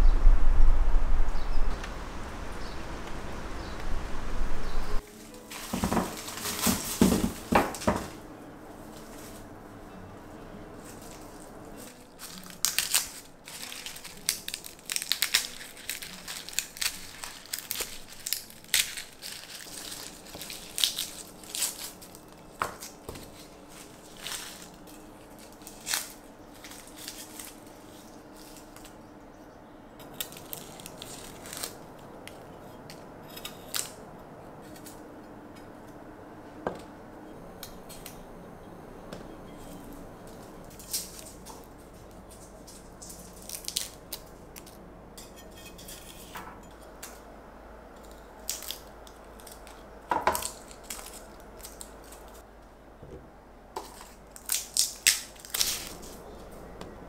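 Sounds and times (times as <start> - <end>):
garlic skins crackling: 1.5 - 29.2, 29.9 - 36.0, 39.4 - 44.9, 47.9 - 52.5, 53.8 - 57.0.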